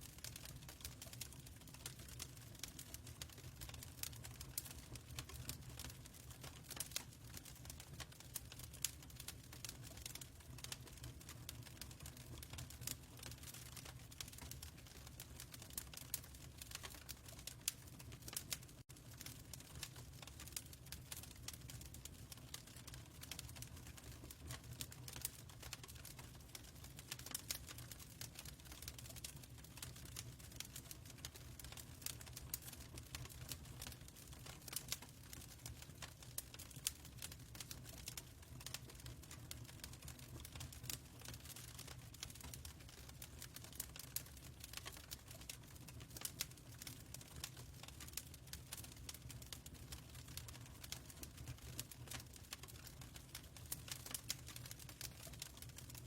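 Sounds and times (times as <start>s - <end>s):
fireplace crackling: 0.0s - 56.0s.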